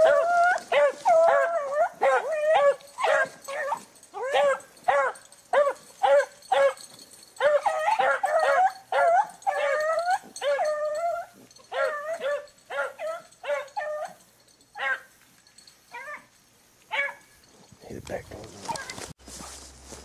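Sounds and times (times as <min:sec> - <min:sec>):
hounds baying: 0:00.0 - 0:19.1.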